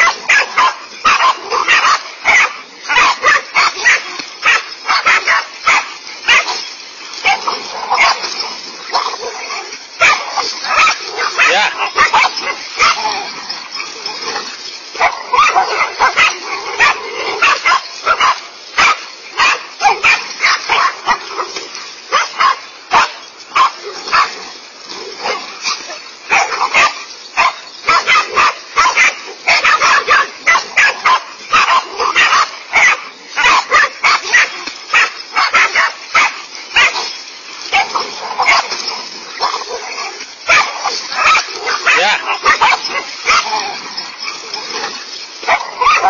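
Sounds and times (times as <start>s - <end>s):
dogs barking rapidly: 0.0s - 46.0s.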